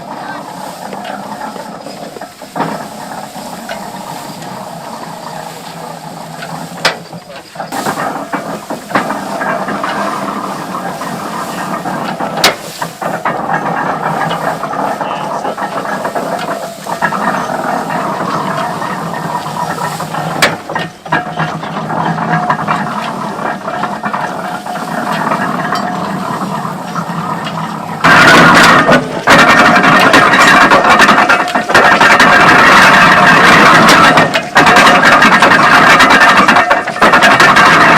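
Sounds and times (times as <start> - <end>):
steam engine running: 0.0 - 37.9
steam hiss: 0.0 - 37.9.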